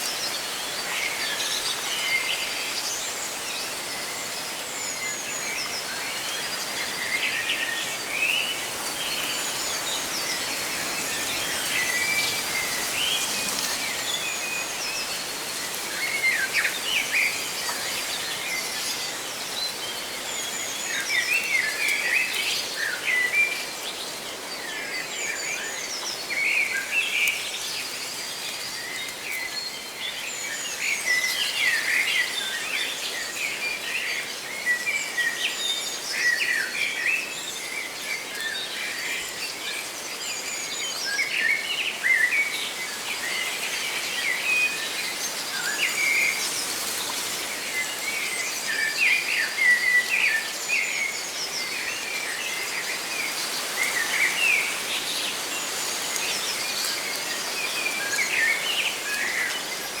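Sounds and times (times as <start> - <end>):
leaves rustling: 0.0 - 35.3, 41.0 - 60.0.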